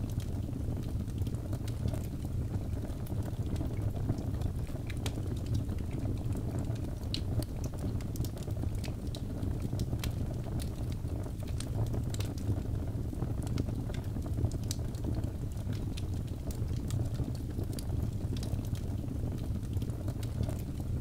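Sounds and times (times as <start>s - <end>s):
burning logs crackling and popping: 0.0s - 21.0s
fire flames rumbling: 0.0s - 21.0s.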